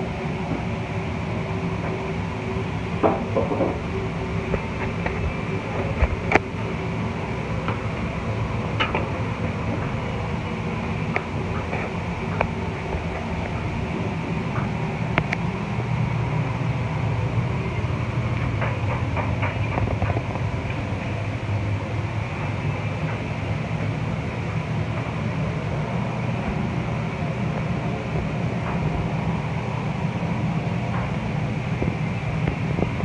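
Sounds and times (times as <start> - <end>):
gas burners rumbling: 0.0 - 33.0.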